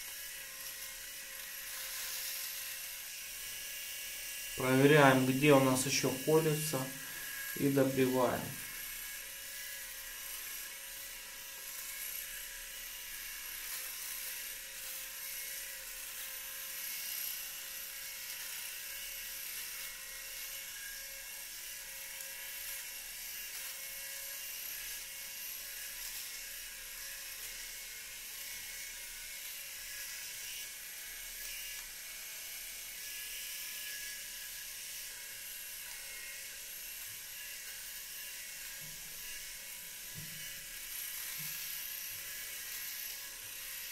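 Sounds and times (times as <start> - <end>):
electric shaver whining: 0.0 - 43.9.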